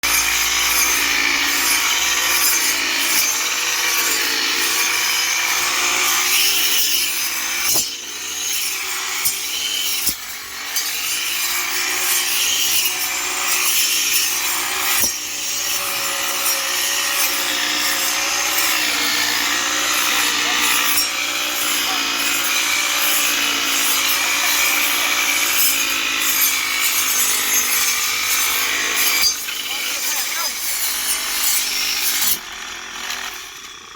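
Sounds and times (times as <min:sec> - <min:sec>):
grass cutter engine drone: 0:00.0 - 0:33.9
harsh rasping of grass cutting: 0:00.0 - 0:33.9.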